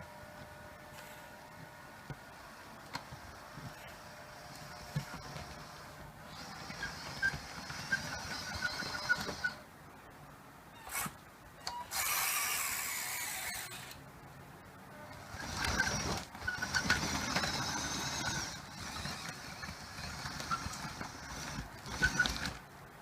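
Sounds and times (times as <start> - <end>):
small electric motors whining: 0.8 - 9.6, 10.8 - 14.0, 14.9 - 22.6.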